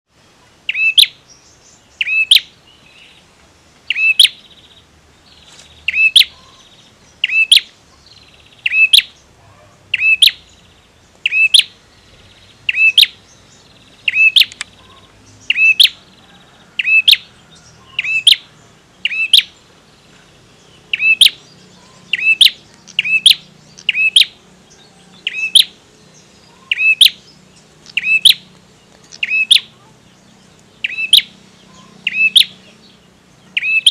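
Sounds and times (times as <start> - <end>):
bird sharp high chirps: 0.7 - 3.2, 3.9 - 19.7, 20.7 - 33.9.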